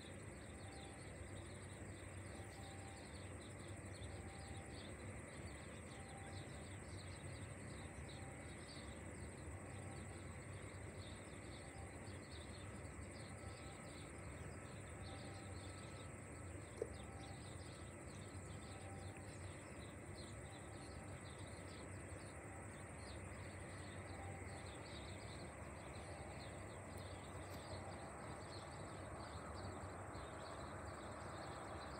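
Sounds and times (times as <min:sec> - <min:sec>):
faint low hum: 0:00.0 - 0:31.9
insects chirping: 0:00.0 - 0:31.9.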